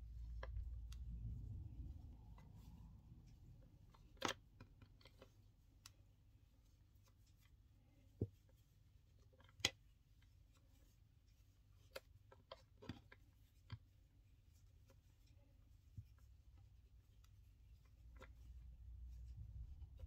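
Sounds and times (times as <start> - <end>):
cord rustling as knotted: 0.0 - 20.0.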